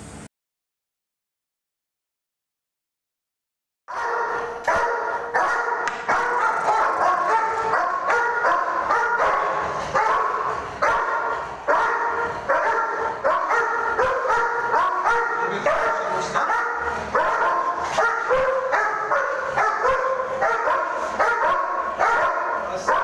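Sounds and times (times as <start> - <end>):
dog barking: 3.9 - 23.0.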